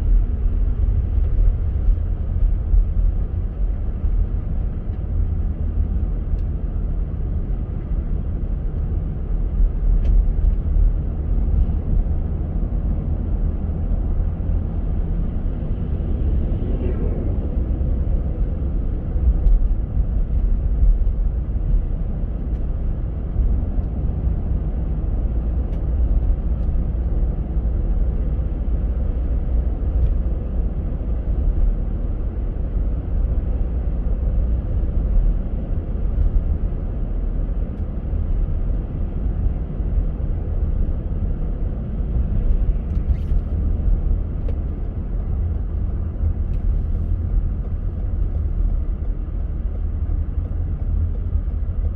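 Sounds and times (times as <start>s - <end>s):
car road and engine noise: 0.0s - 51.9s.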